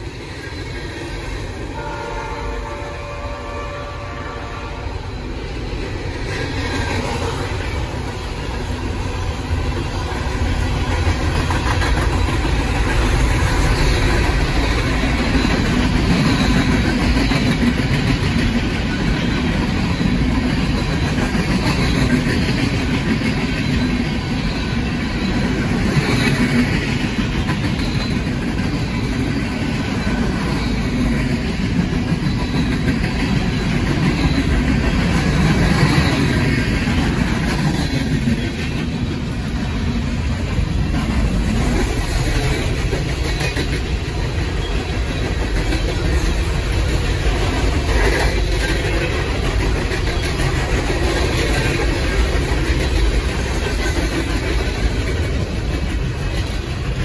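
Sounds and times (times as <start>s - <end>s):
locomotive engine: 0.0s - 57.0s
steel wheels rolling on rail: 0.0s - 57.0s.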